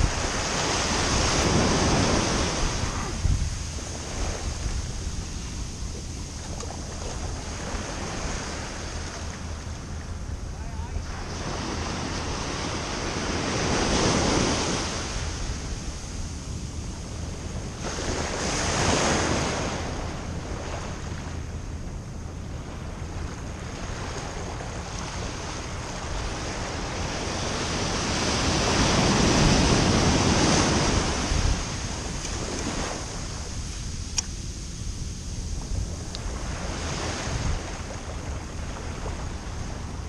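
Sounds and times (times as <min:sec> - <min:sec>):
ocean surf breaking: 0:00.0 - 0:21.4, 0:22.6 - 0:40.0
wind rumble on microphone: 0:00.0 - 0:40.0.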